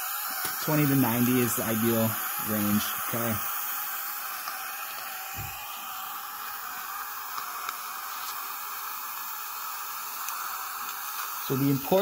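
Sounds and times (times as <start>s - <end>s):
dental suction hissing: 0.0s - 12.0s.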